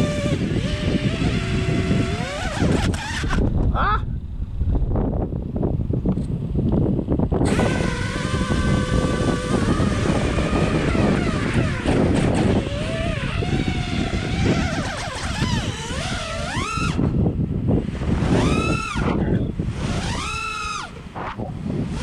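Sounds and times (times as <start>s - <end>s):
drone motors whining: 0.0s - 22.0s
wind rush: 0.0s - 22.0s.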